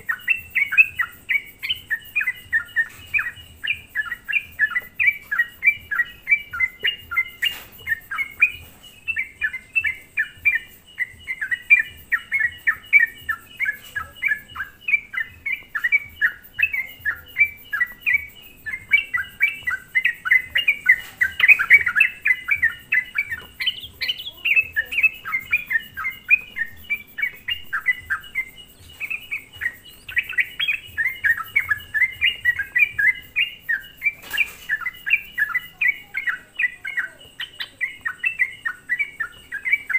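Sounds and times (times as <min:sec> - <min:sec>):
bulbul singing bubbly chatter: 0:00.0 - 0:39.9.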